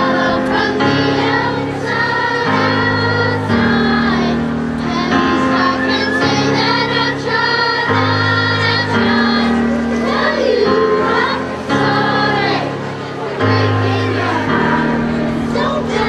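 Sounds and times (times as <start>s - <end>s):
children's chorus singing: 0.0s - 16.0s.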